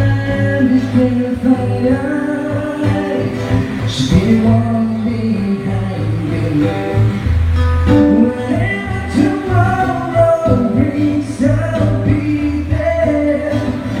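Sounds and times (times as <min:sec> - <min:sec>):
person singing: 0:00.0 - 0:07.2, 0:07.9 - 0:14.0
steady low bass line: 0:00.0 - 0:14.0.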